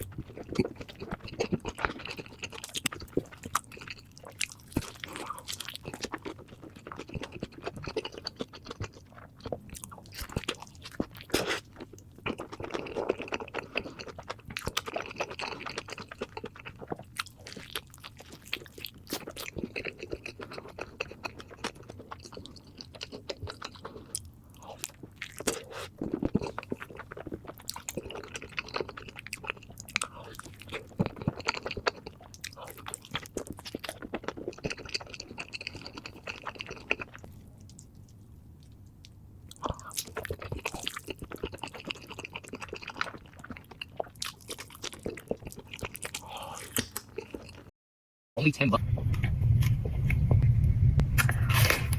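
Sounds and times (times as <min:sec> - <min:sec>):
person chewing crunchy food: 0:00.0 - 0:47.7.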